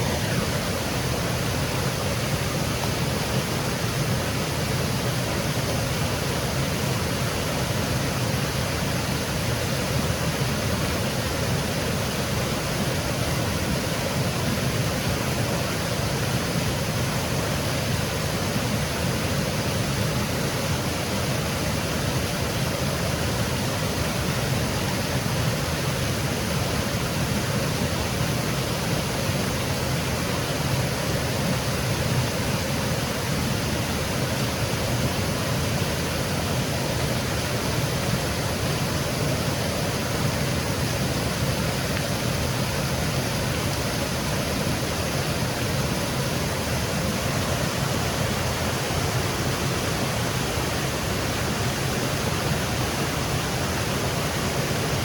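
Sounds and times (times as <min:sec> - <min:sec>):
small waterfall cascading: 0:00.0 - 0:55.0.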